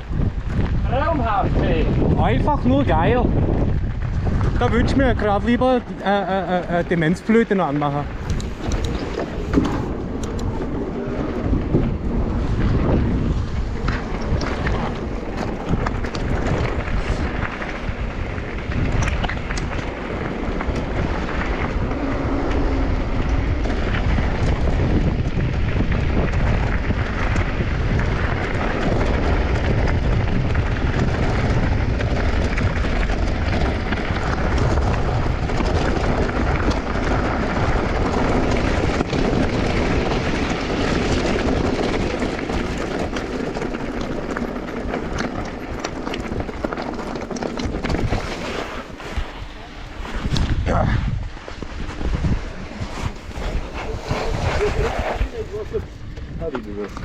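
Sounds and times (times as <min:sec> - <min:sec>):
bike rattling and knocking: 0:00.0 - 0:57.0
tyres rolling over dirt: 0:00.0 - 0:57.0
wind buffeting microphone: 0:00.0 - 0:57.0.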